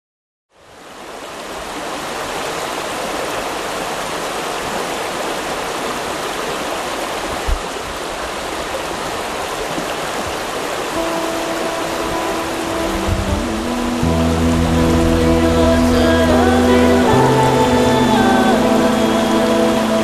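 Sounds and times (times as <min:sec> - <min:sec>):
river rushing over stones: 0:00.6 - 0:20.0.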